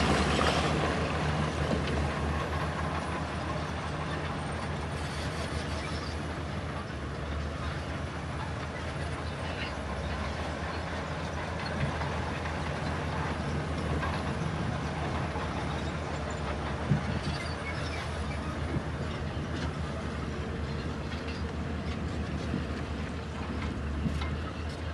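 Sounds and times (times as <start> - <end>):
heavy diesel machinery running: 0.0 - 24.9.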